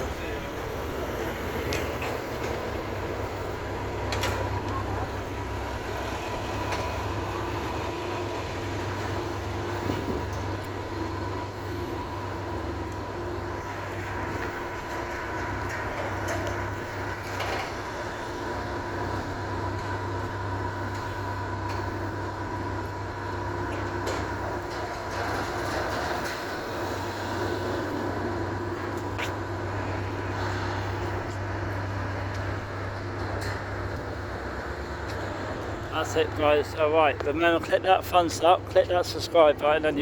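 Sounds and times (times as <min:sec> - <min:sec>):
faint steady whine: 0:00.0 - 0:40.0
low mechanical drone: 0:00.0 - 0:40.0.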